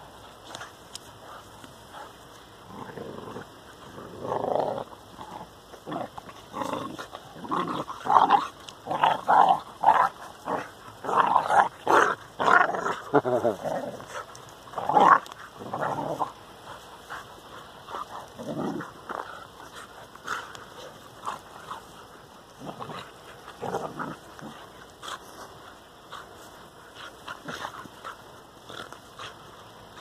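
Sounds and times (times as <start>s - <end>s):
dogs growling: 0.4s - 30.0s.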